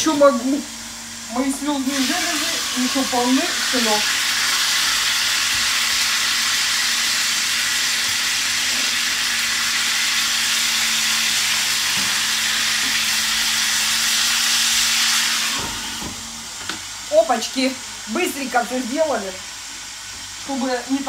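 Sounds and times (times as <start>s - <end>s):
peppers sizzling in a pan: 0.1s - 21.0s.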